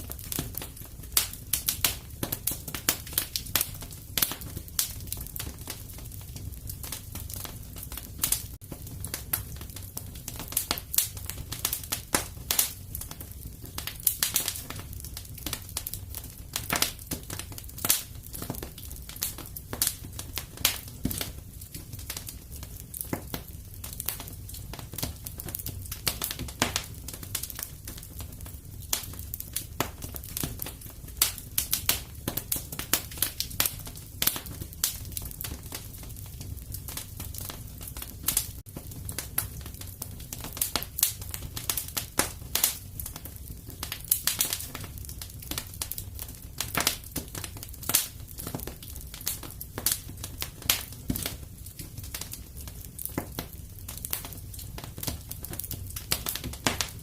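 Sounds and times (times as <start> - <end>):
low rumble of fire: 0.0 - 57.0
wood fire crackling: 0.0 - 57.0.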